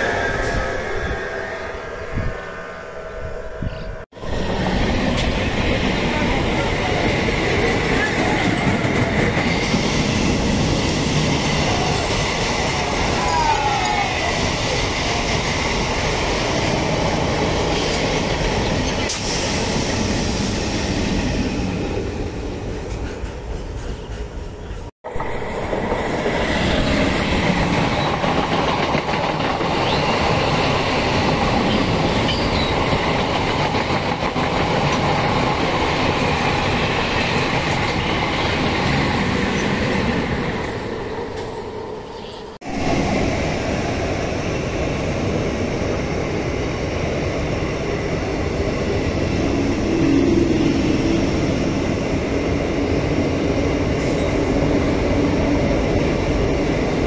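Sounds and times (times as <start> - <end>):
train wheels on rails: 4.2 - 57.0.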